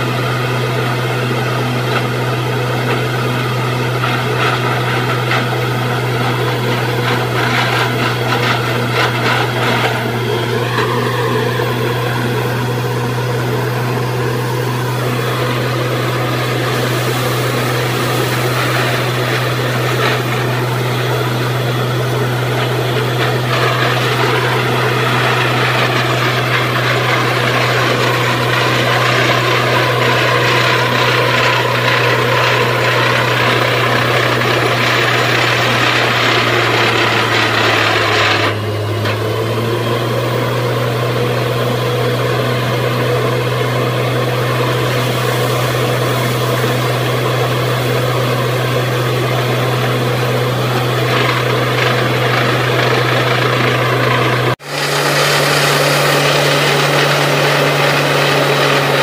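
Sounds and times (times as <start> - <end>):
deep engine hum: 0.0 - 59.0
heavy mechanical drilling noise: 0.0 - 59.0.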